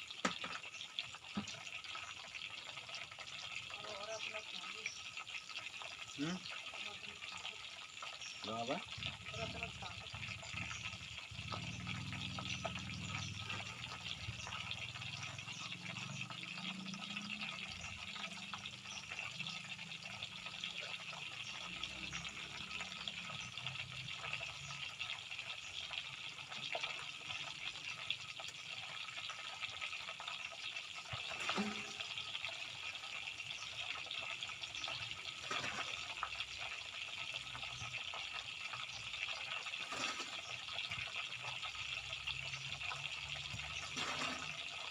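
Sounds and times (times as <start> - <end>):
deep-frying sizzle: 0.0 - 44.9.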